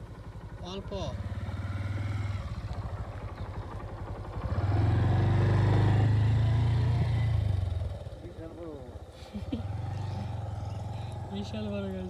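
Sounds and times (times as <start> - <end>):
engine running with even pulse: 0.0 - 12.0.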